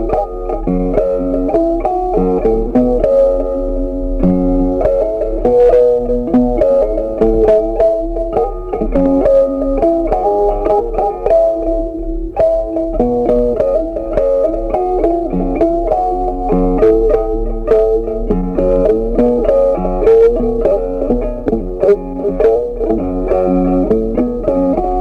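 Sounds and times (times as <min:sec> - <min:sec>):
plucked guitar melody: 0:00.0 - 0:25.0.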